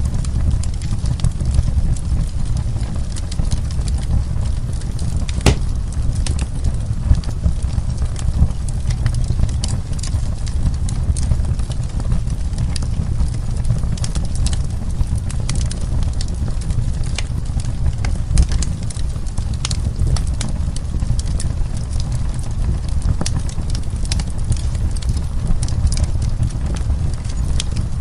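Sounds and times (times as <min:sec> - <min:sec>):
fire rumbling with crackles: 0:00.0 - 0:28.0.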